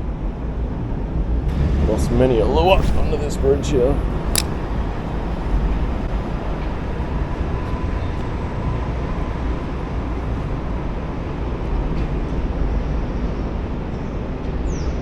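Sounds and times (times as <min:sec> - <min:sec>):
road traffic rumble: 0:00.0 - 0:13.8.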